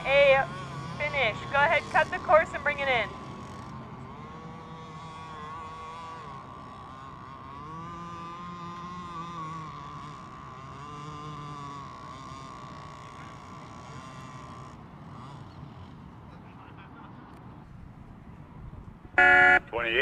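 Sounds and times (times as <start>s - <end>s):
rc boats whining: 0.0s - 17.7s, 19.2s - 20.0s
lower engine tones: 0.0s - 20.0s.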